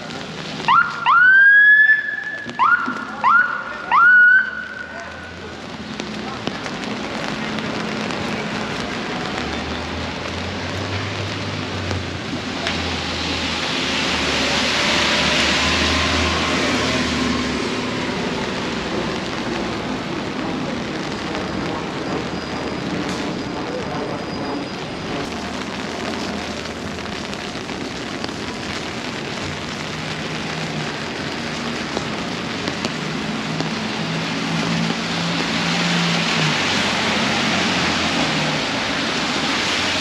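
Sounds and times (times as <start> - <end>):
rain on wet street: 0.0 - 40.0
vehicle passing on wet pavement: 0.0 - 40.0.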